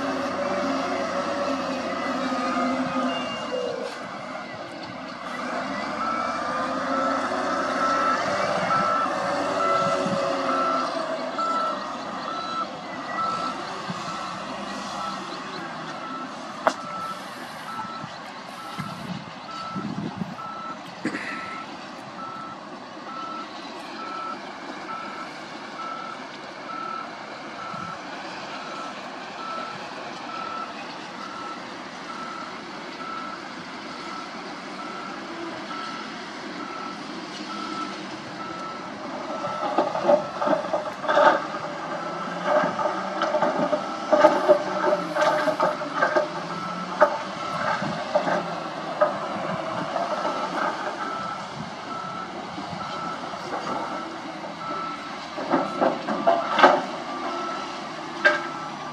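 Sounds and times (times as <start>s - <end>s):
diesel engines running: 0.0s - 58.9s
reversing alarm beeping: 0.1s - 20.8s, 21.4s - 28.0s, 28.6s - 40.5s, 43.6s - 48.4s, 50.2s - 58.8s.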